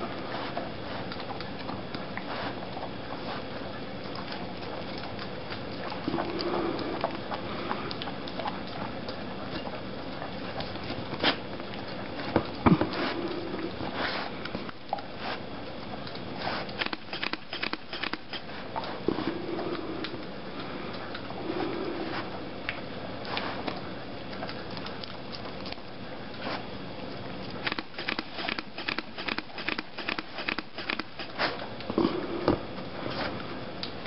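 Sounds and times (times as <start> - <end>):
dog chewing and licking: 0.0 - 34.0.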